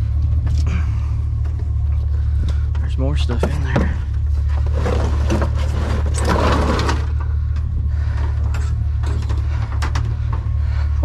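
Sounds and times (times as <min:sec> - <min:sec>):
junk rustling and clattering: 0:00.0 - 0:11.0
low rumble: 0:00.0 - 0:11.0.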